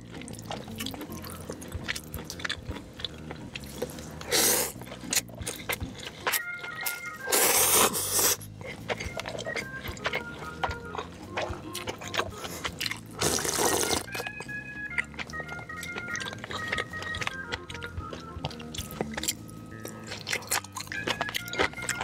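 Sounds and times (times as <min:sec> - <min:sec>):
crunching fried food: 0:00.0 - 0:22.0
soft background music: 0:00.0 - 0:22.0.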